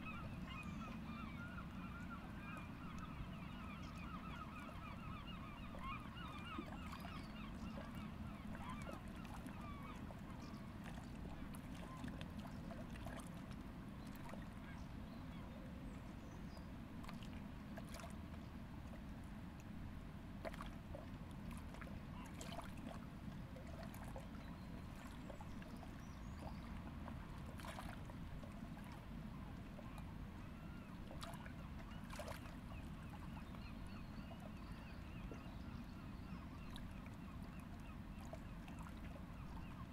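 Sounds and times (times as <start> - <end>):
waterbirds chattering: 0.0 - 19.0, 20.4 - 39.9.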